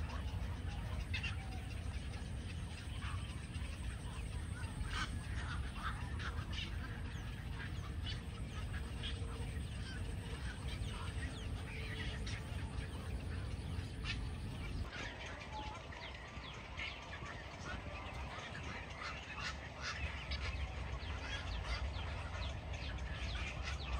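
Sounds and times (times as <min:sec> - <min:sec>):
low steady rumble: 0:00.0 - 0:23.9
waterbirds calling: 0:00.0 - 0:23.9.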